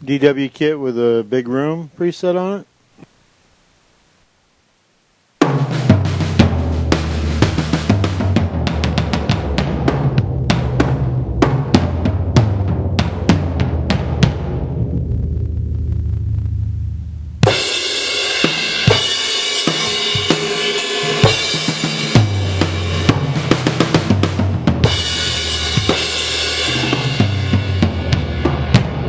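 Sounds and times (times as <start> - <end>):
drum kit playing: 5.4 - 29.0.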